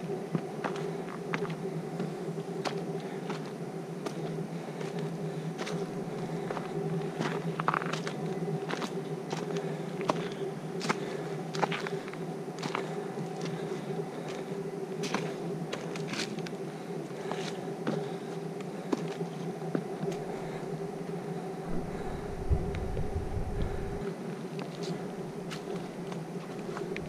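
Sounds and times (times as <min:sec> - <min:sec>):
steady buzzing hum: 0:00.0 - 0:27.0
footsteps crunching on trail: 0:00.4 - 0:16.5, 0:17.2 - 0:24.0, 0:24.6 - 0:27.0.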